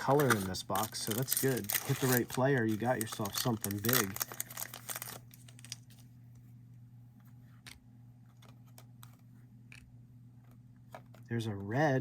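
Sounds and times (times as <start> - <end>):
trading cards being handled: 0.0 - 6.6, 7.2 - 11.8
steady low hum: 0.0 - 12.0.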